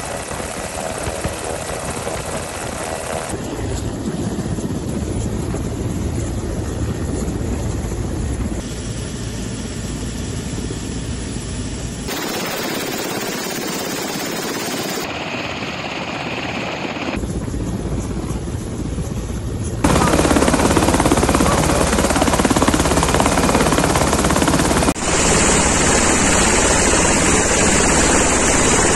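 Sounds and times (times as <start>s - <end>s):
helicopter engine and rotor noise: 0.0s - 28.9s.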